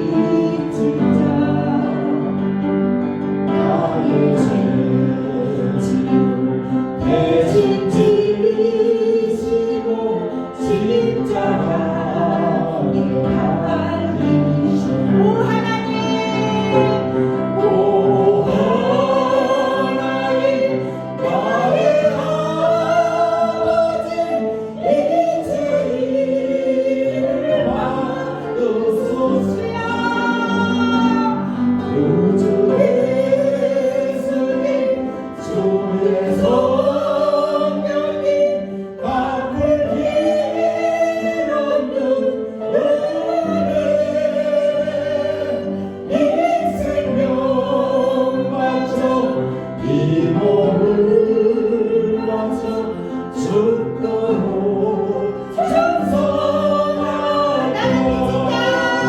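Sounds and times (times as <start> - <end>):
group singing a gospel hymn: 0.0 - 59.0
sustained instrumental backing: 0.0 - 59.0.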